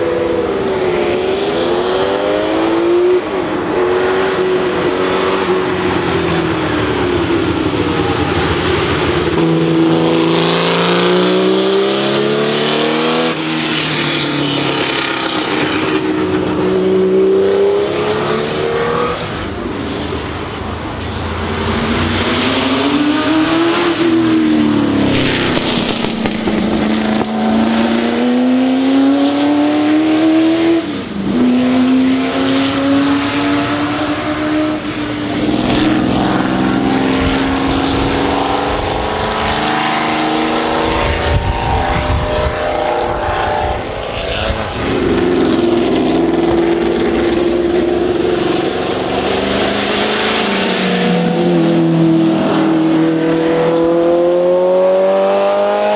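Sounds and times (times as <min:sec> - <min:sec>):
racing car engine at full throttle: 0:00.0 - 0:55.9.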